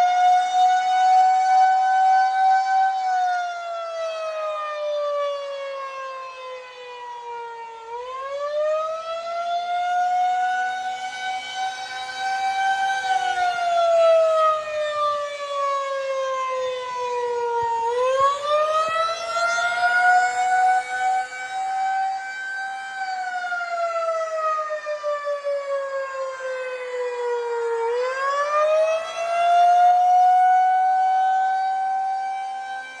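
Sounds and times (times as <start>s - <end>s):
warning siren wailing: 0.0s - 33.0s.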